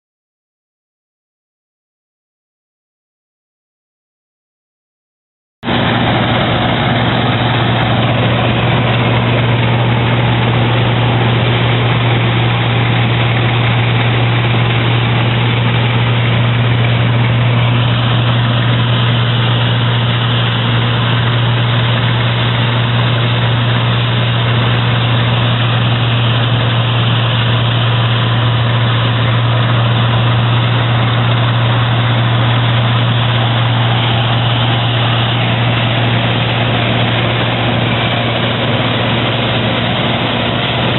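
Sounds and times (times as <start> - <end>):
combine harvester engine drone: 5.6 - 40.9.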